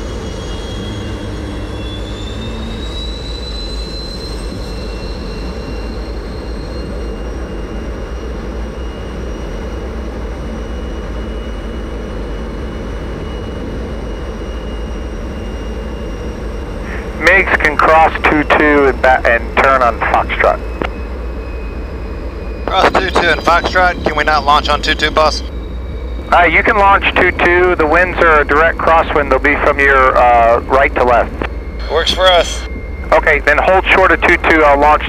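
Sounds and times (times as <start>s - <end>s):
jet engine with compressor whine: 0.0s - 35.0s.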